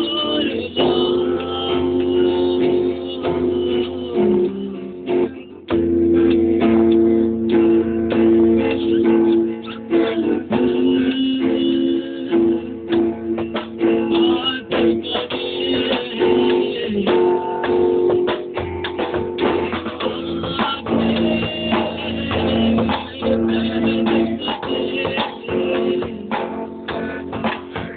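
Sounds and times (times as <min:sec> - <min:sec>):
rock guitar strumming chords: 0:00.0 - 0:27.9.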